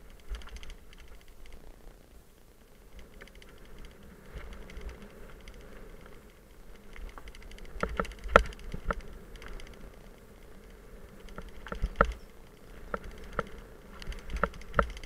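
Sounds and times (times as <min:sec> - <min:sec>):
mountain bike rattling and clicking: 0:00.0 - 0:01.9, 0:02.8 - 0:15.0.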